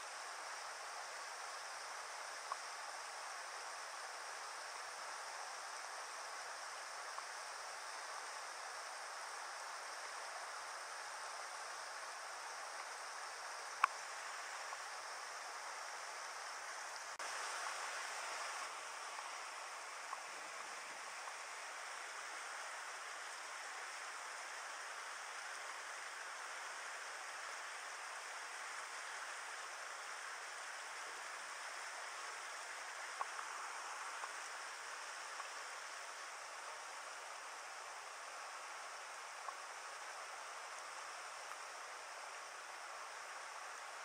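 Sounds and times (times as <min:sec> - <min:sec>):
faint ticks: 0:00.0 - 0:15.5, 0:18.3 - 0:44.0
river water rushing over rocks: 0:05.8 - 0:44.0.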